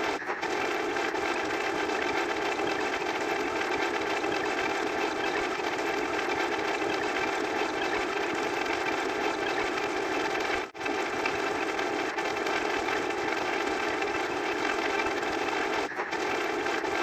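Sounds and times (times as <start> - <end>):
steady machine-like noise: 0.0 - 17.0.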